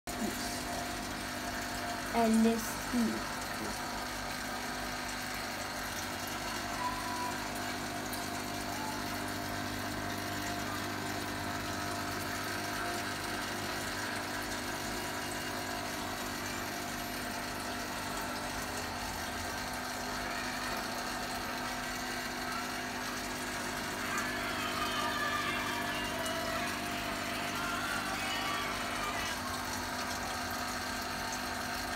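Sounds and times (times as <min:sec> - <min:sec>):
aquarium pump humming: 0:00.1 - 0:31.9.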